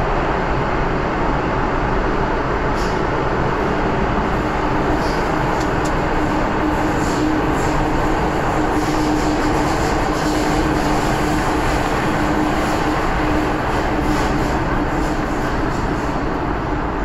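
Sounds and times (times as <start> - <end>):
steady train hum: 0.0 - 17.0
train wheels rumbling on rail: 0.0 - 17.0.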